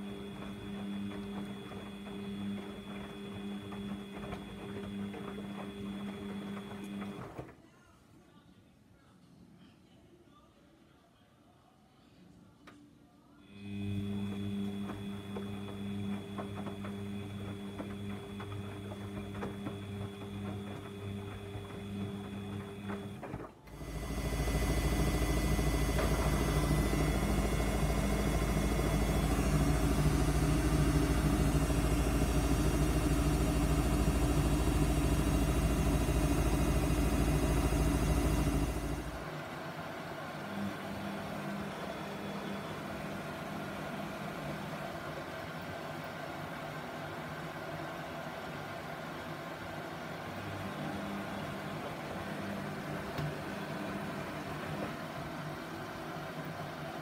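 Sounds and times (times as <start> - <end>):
washing machine hum: 0.0 - 7.6, 13.5 - 57.0
washing machine mechanical running: 0.0 - 7.6, 13.5 - 57.0.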